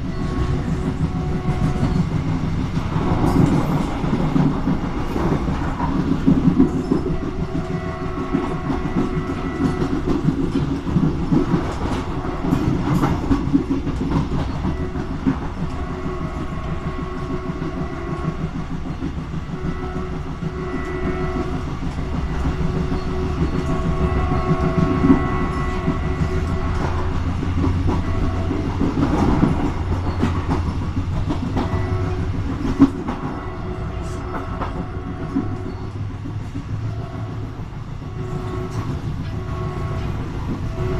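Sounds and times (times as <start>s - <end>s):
train engine rumble and drone: 0.0s - 40.9s
wheels clicking over rail joints: 0.0s - 40.9s.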